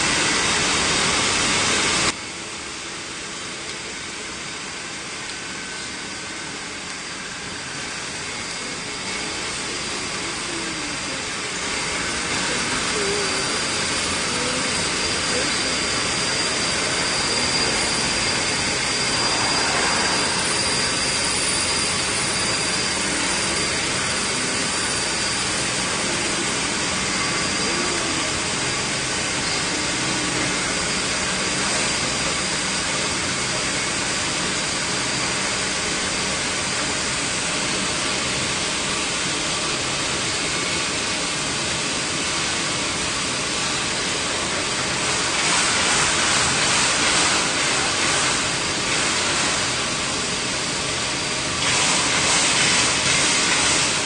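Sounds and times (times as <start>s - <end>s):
polishing machine rushing noise: 0.0s - 2.2s, 3.9s - 54.0s.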